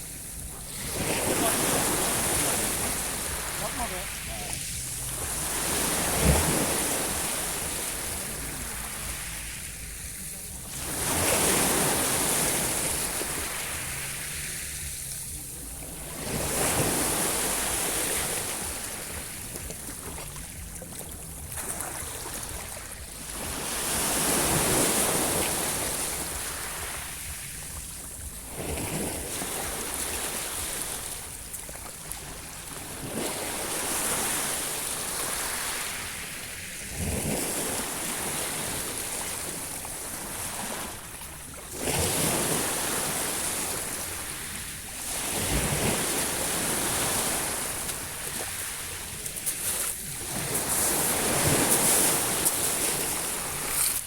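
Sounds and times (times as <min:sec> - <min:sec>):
sea waves rolling in: 0:00.0 - 0:54.0.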